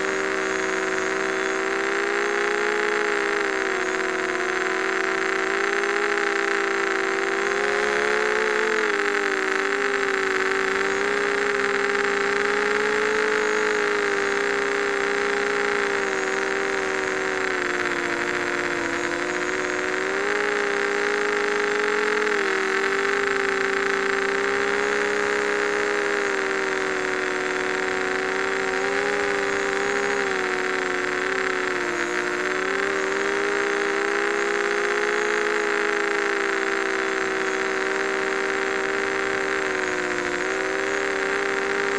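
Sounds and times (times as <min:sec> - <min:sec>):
quadcopter motors whining: 0:00.0 - 0:41.9.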